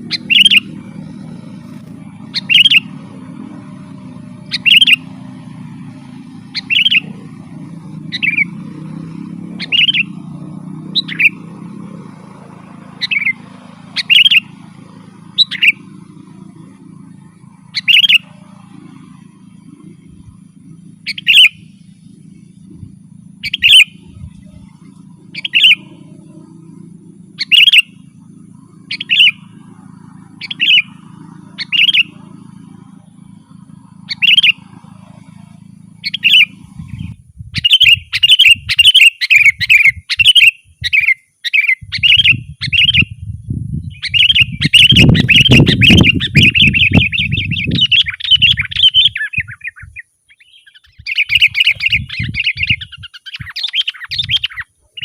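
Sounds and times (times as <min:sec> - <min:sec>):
low rumble: 0:00.0 - 0:38.7, 0:41.8 - 0:48.8
bulbul calling and chattering: 0:00.0 - 0:55.0
steady low hum: 0:00.0 - 0:55.0.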